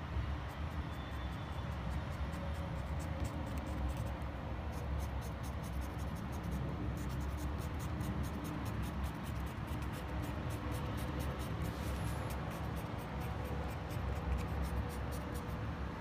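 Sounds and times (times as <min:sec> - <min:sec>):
marker scratching on stone: 0:00.3 - 0:16.0.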